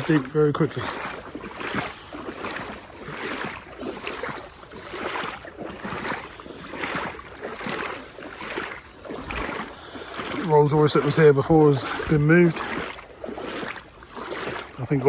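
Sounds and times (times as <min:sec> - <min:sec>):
wading through water: 0:00.0 - 0:15.0.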